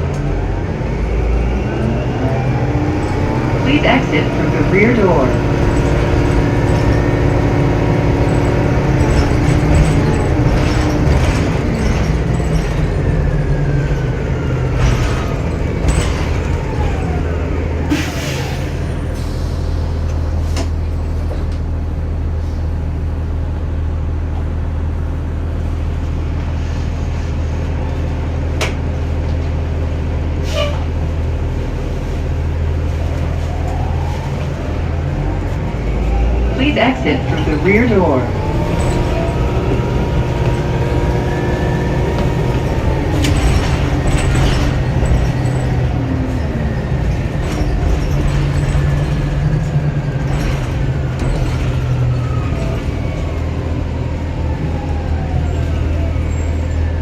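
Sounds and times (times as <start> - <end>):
bus diesel engine: 0.0 - 57.0
bus drive whine: 0.0 - 57.0.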